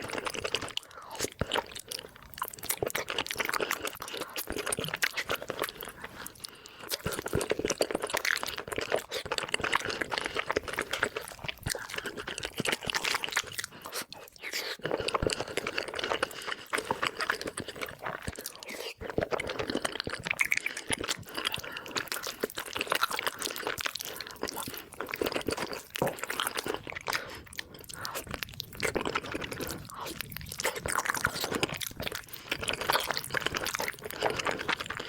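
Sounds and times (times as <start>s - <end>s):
chewing and biting: 0.0s - 35.0s.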